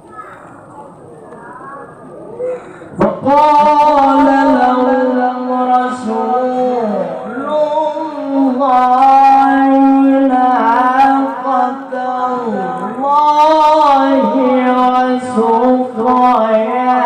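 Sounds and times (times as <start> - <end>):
man reciting melodically: 2.5 - 17.0.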